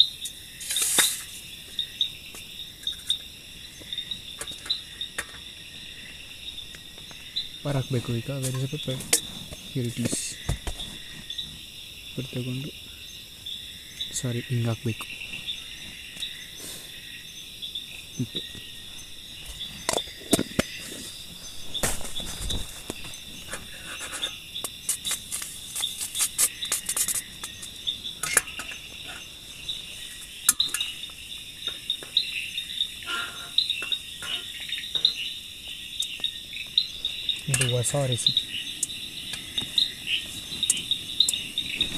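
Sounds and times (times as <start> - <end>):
night insects chirring: 0.0 - 41.9.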